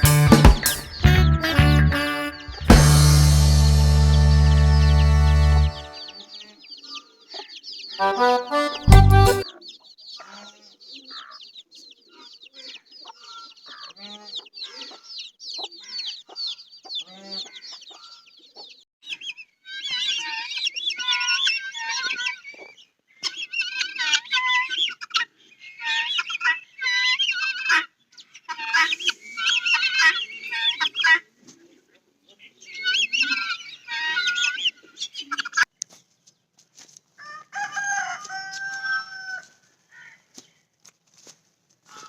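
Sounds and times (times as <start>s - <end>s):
chicks peeping: 0.0s - 2.8s, 3.6s - 35.6s.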